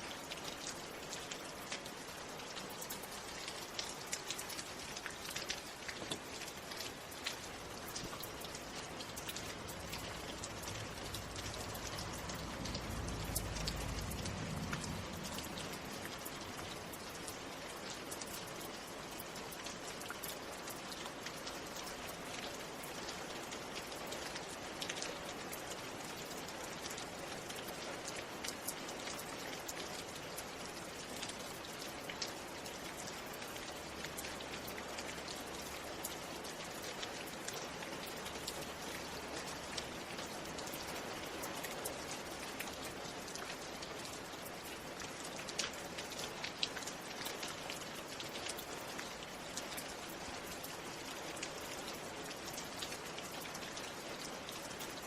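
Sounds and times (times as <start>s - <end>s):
rain drops pattering: 0.0s - 55.0s.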